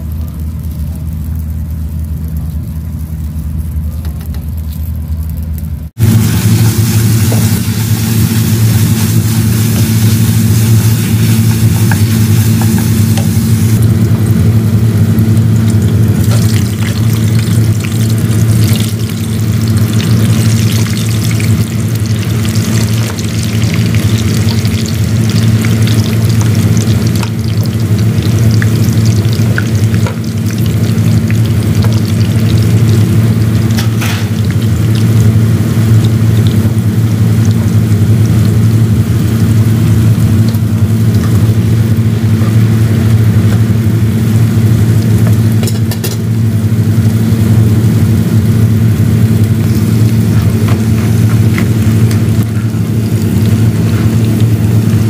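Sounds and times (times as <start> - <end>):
loud low hum: 0.0 - 55.0
potatoes sizzling in hot oil: 0.0 - 55.0.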